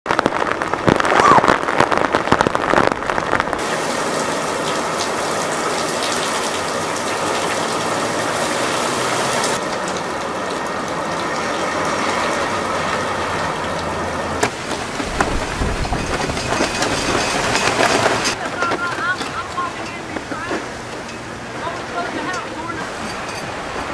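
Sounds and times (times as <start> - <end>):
heavy rain on pavement: 0.0 - 23.9.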